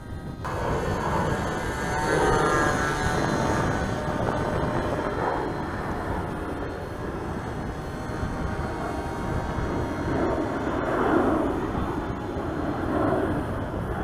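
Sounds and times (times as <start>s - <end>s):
low rushing noise: 0.0s - 14.0s
model plane engine buzzing: 0.0s - 14.0s.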